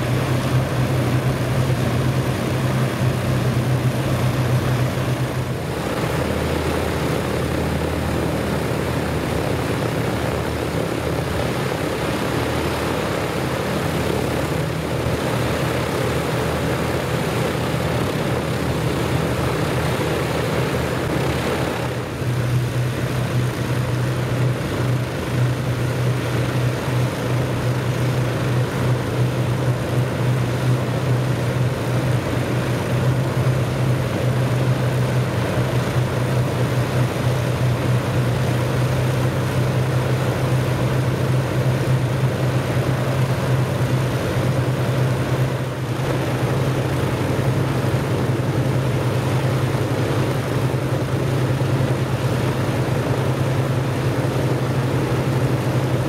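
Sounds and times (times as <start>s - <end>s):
propeller engine droning: 0.0s - 56.0s.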